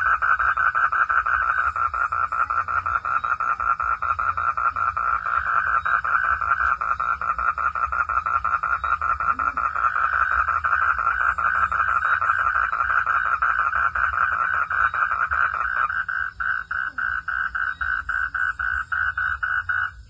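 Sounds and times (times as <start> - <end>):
frog chorus pulsing: 0.0 - 20.0.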